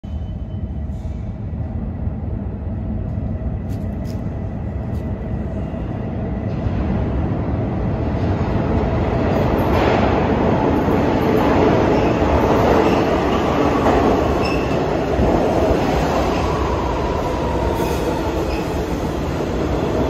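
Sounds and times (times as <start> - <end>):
subway train rumble in tunnel: 0.0 - 20.0.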